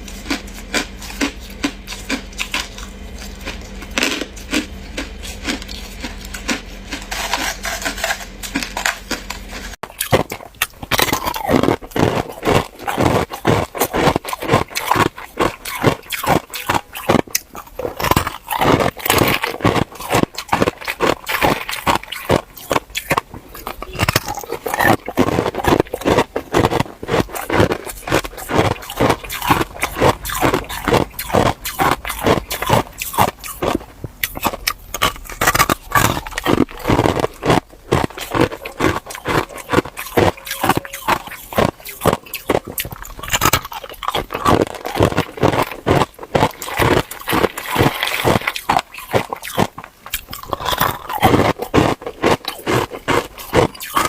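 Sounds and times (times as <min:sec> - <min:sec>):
person chewing ice: 0:00.0 - 0:54.0.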